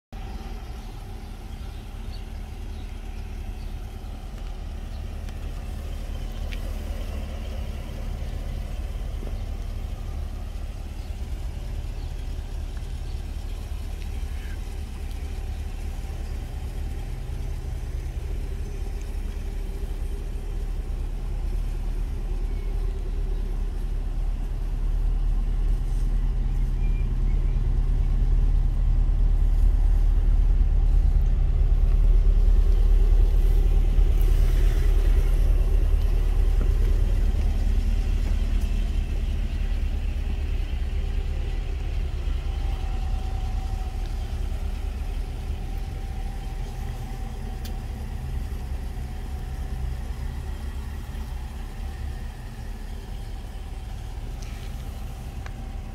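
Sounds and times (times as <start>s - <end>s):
car engine idling: 0.1s - 55.9s.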